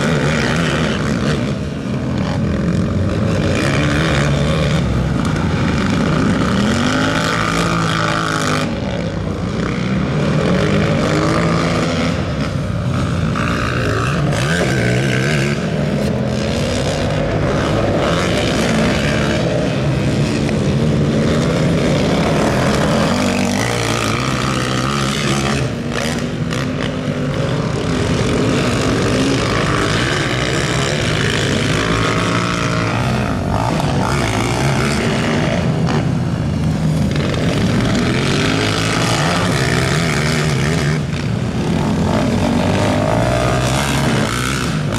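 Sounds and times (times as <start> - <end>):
quad bike engines revving: 0.0 - 44.9.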